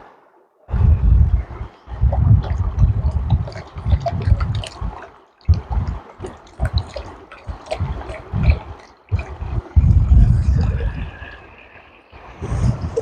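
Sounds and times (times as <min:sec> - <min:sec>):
water sloshing: 0:00.6 - 0:13.0.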